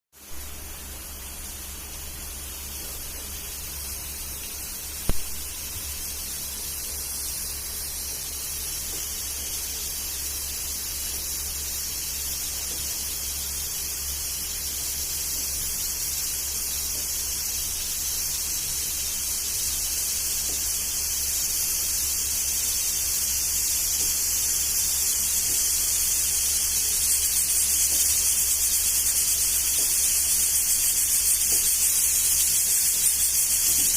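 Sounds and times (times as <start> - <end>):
pressure cooker hissing steam: 0.2 - 33.9.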